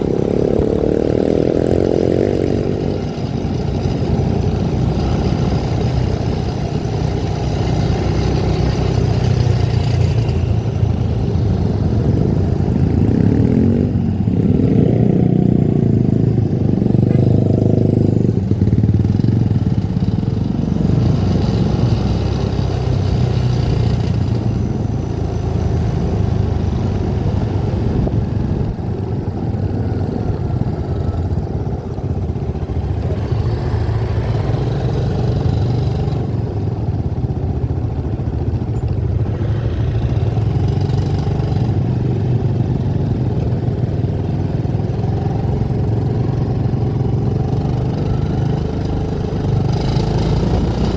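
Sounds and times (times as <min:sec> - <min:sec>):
road noise: 0:00.0 - 0:50.9
vehicle engine running: 0:00.0 - 0:50.9.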